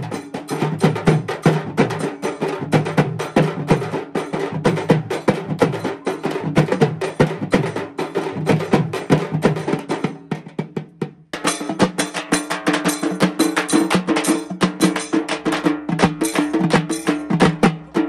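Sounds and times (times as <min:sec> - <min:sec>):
frame drums beaten fast: 0:00.0 - 0:18.0.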